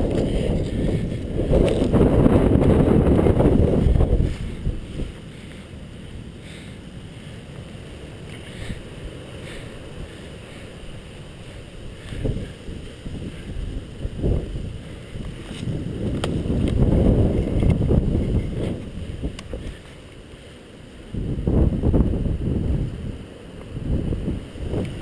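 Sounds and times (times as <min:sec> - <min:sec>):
wind buffeting microphone: 0:00.0 - 0:20.0, 0:21.0 - 0:25.0
low outdoor hiss: 0:00.0 - 0:25.0.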